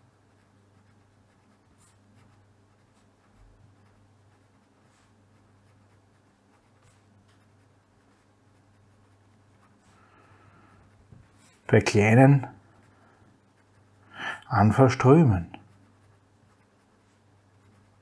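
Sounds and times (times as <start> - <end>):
pen scratching on paper: 0.0 - 10.2, 10.8 - 14.0, 14.8 - 18.0
low steady hum: 0.0 - 18.0.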